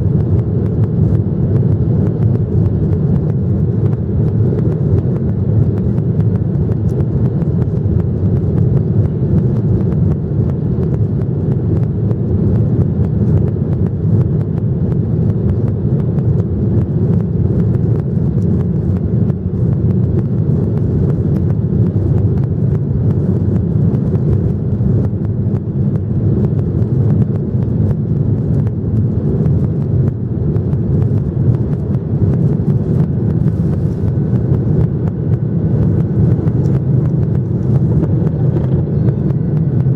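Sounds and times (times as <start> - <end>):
faint steady hum: 0.0 - 39.9
jet engines rumbling: 0.0 - 39.9.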